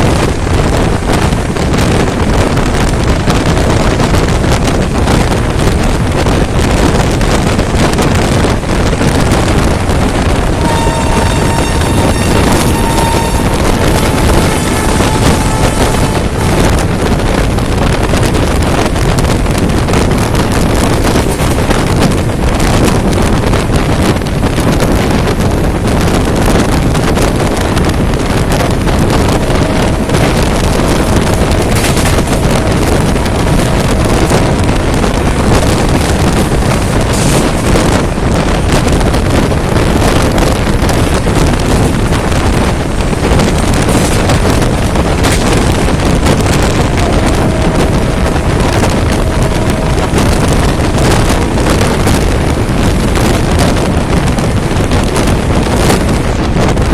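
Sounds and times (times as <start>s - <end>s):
train rumbling at speed: 0.0s - 56.9s
wind buffeting microphone: 0.0s - 56.9s.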